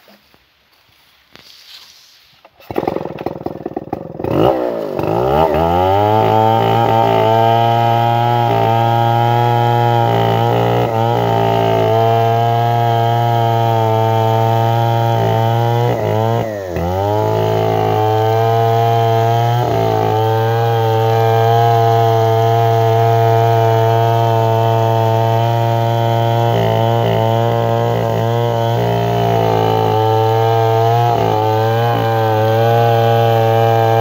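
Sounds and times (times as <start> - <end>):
chainsaw sawing through log: 2.6 - 34.0.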